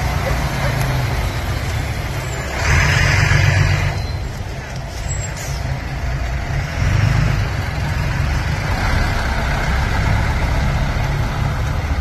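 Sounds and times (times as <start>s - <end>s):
diesel bus driving past: 0.0s - 12.0s.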